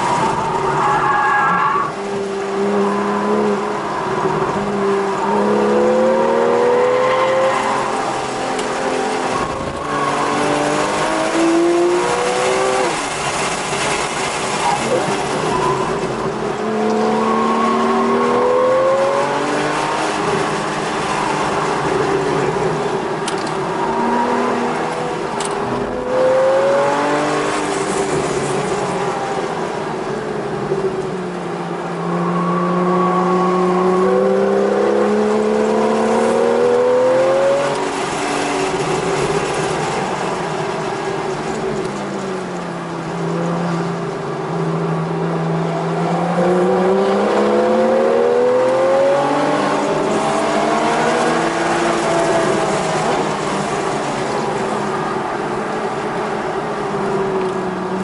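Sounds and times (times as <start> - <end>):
car engine accelerating and shifting: 0.0 - 58.0
road and wind noise: 0.0 - 58.0.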